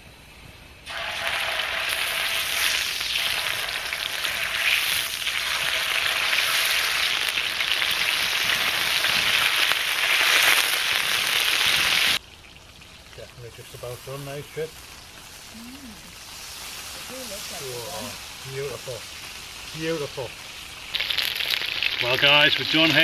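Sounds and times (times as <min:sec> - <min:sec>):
steak sizzling on a griddle: 0:00.9 - 0:12.2, 0:13.4 - 0:23.0.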